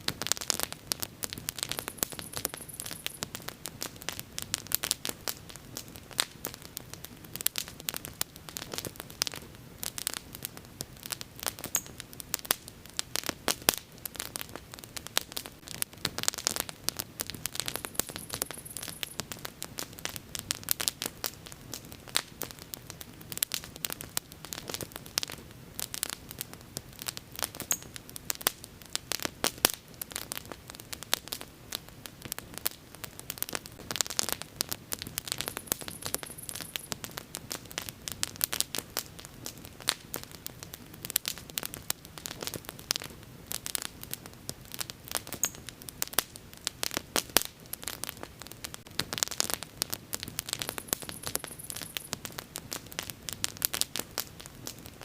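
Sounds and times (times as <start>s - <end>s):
low rumble of burning: 0.0s - 55.0s
wood bonfire crackling: 0.0s - 55.0s.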